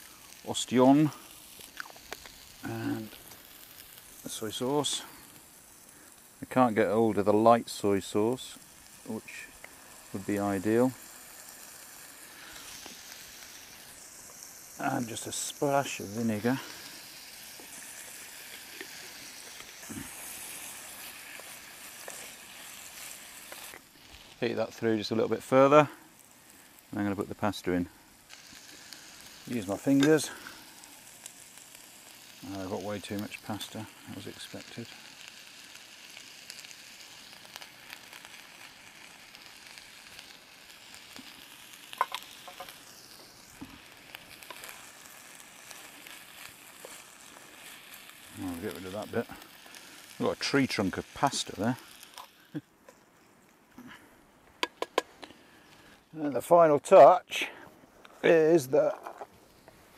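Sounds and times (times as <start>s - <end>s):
food sizzling in a frying pan: 0.0s - 52.7s.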